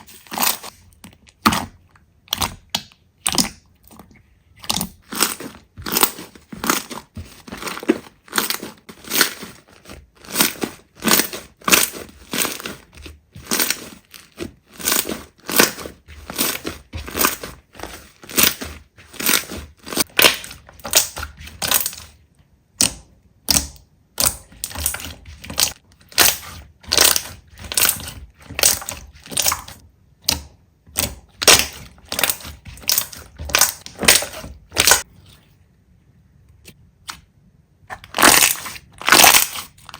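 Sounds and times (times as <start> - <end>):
slime squishing by hand: 0.0 - 39.9.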